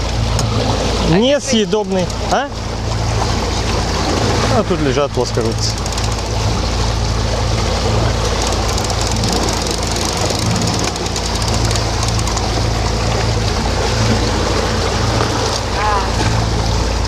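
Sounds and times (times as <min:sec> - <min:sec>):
boat diesel engine running: 0:00.0 - 0:17.0
water rushing in wake: 0:00.0 - 0:17.0.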